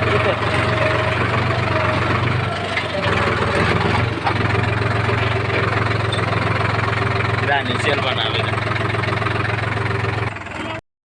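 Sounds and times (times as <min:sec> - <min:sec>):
heavy diesel engine running: 0:00.0 - 0:10.8.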